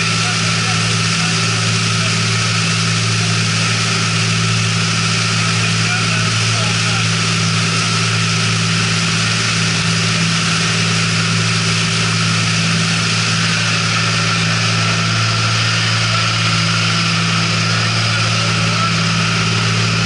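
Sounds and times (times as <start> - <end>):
outboard motors droning: 0.0 - 20.0.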